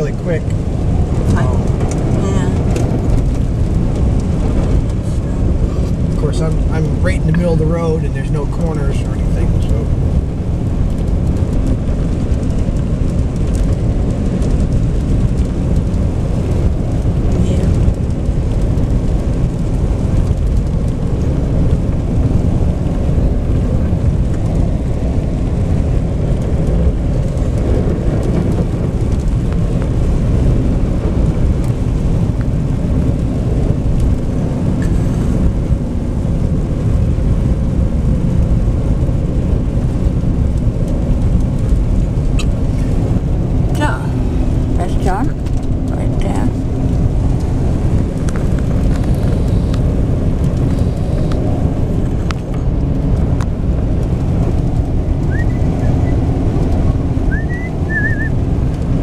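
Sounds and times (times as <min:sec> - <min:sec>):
car tyres and engine rumbling: 0:00.0 - 0:59.0.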